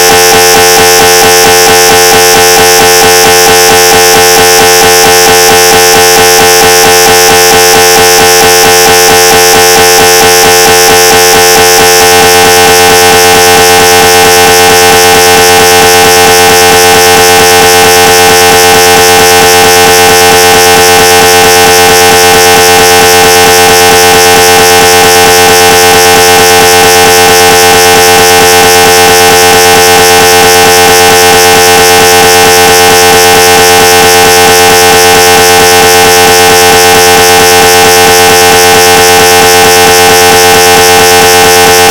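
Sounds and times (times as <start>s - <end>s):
mri scanner pulsing buzz: 0.0s - 41.9s.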